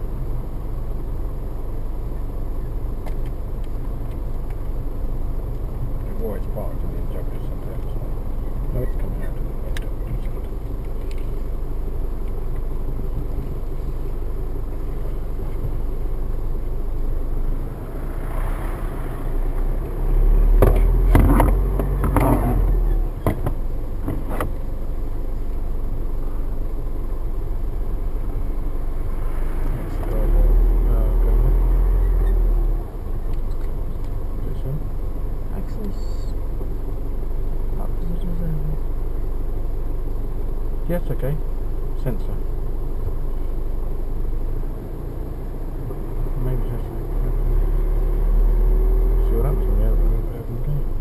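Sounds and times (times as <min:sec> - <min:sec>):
car engine and tyre rumble: 0:00.0 - 0:51.0.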